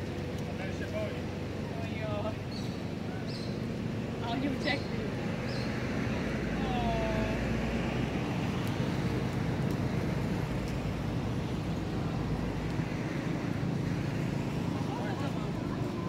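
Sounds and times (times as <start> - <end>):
outdoor background rumble and hiss: 0.0 - 16.0.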